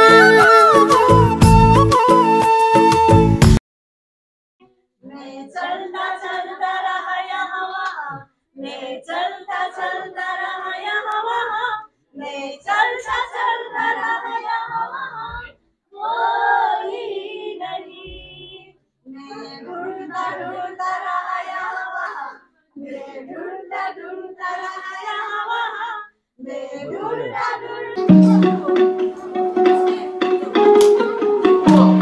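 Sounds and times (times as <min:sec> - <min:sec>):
children singing: 0:05.1 - 0:11.6, 0:12.2 - 0:32.0.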